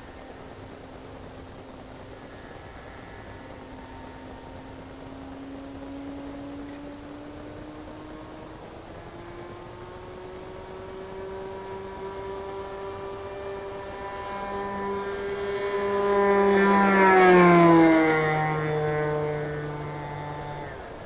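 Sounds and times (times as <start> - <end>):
model plane engine fly-by: 0.0 - 21.0.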